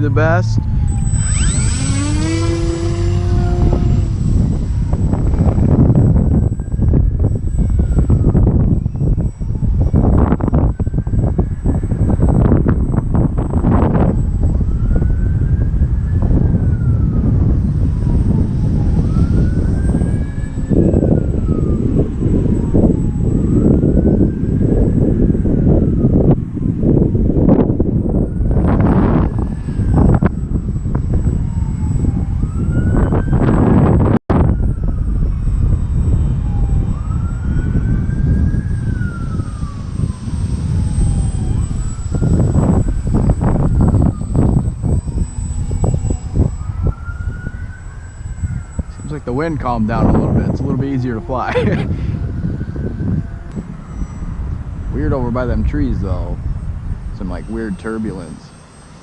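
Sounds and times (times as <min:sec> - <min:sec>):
model plane motor whine: 0:00.0 - 0:59.0
wind buffeting microphone: 0:00.0 - 0:59.0.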